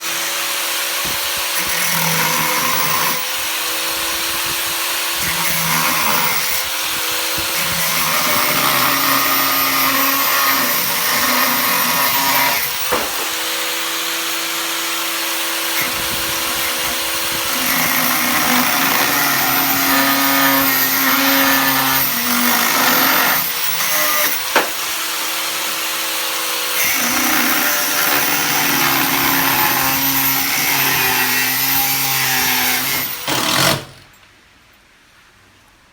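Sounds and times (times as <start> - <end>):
power tools running: 0.0 - 34.2.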